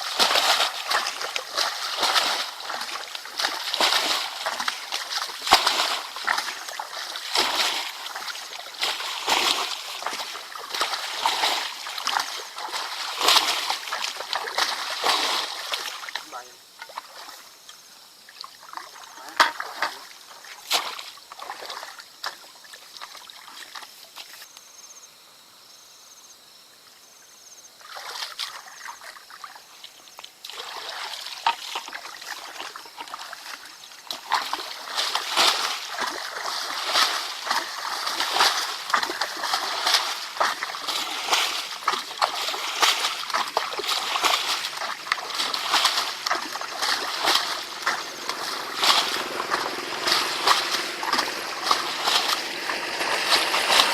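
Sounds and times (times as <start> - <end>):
water splashing and sloshing: 0.0 - 24.5, 27.8 - 53.9.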